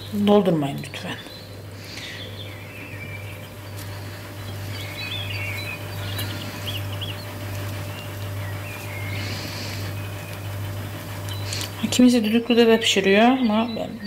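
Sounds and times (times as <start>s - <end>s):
small bird chirping and twittering: 0.0s - 14.0s
steady low hum: 0.0s - 14.0s.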